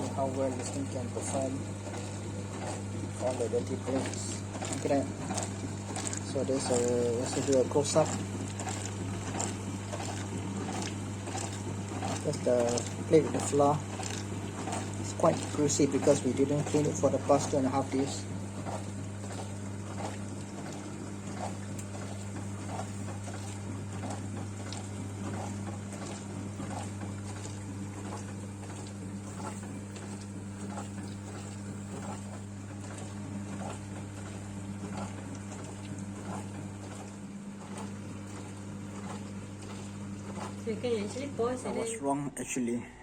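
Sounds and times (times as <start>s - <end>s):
dishwasher pump motor hum: 0.0s - 43.0s.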